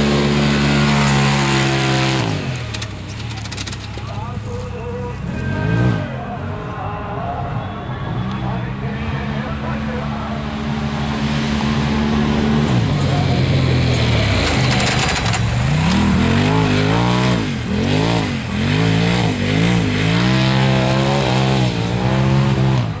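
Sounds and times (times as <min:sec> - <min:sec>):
utv engine revving: 0:00.0 - 0:06.4, 0:08.1 - 0:23.0.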